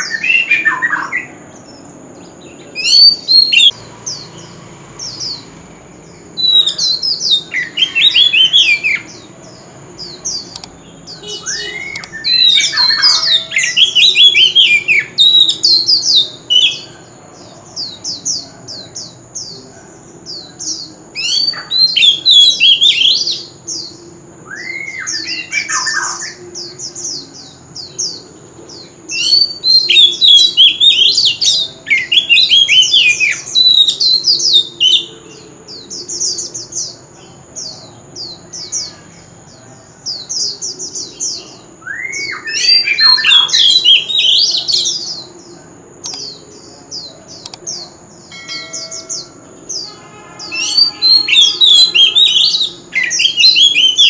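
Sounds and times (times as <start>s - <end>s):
bird singing whistled notes: 0.0s - 17.1s, 20.3s - 37.0s, 40.1s - 54.0s.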